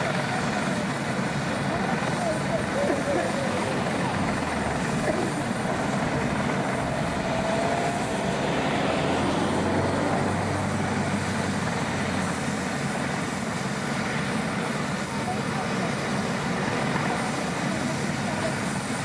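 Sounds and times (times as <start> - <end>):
helicopter turbine and rotor: 0.0 - 19.0.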